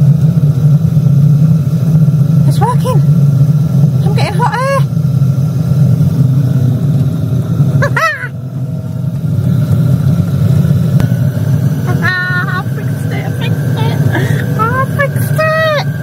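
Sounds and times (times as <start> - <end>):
air heater blower drone: 0.0 - 16.0.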